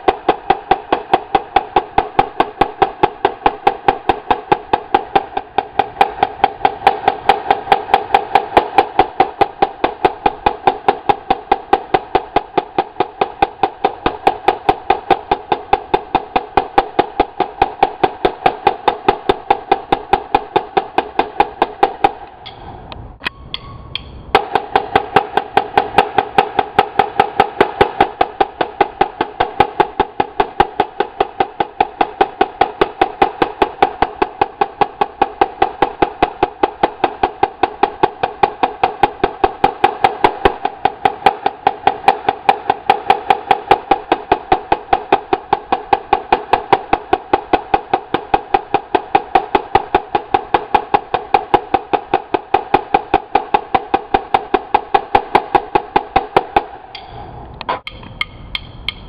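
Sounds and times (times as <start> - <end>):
marching snare drums: 0.0 - 22.3, 24.3 - 56.8.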